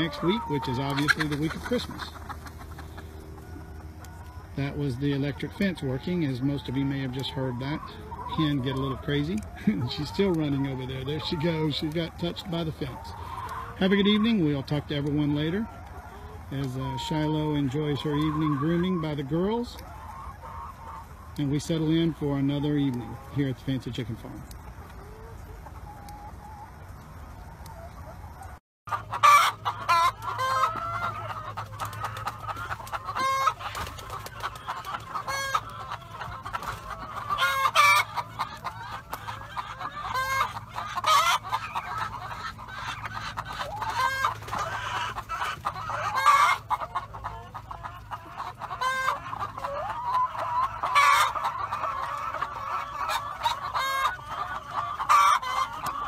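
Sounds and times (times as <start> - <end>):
hens clucking: 0.0 - 56.0
hens squawking: 0.0 - 56.0.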